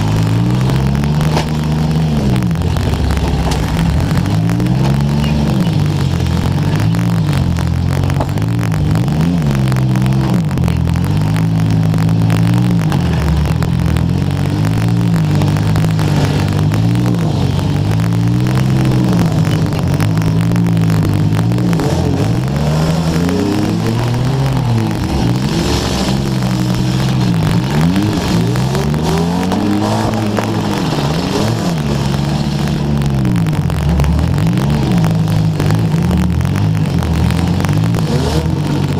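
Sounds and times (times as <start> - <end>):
car engine revving: 0.0 - 38.9
crackling microphone static: 0.0 - 38.9.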